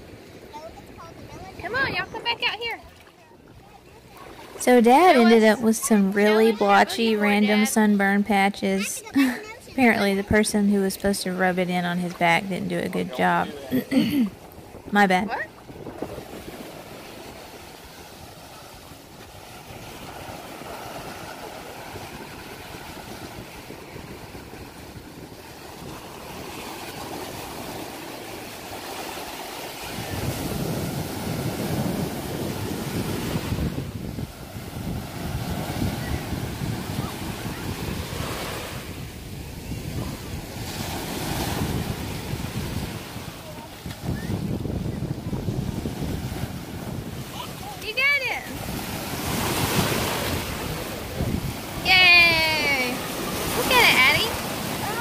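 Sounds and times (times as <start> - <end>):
surf breaking on beach: 0.0 - 55.0
wind buffeting microphone: 0.0 - 55.0.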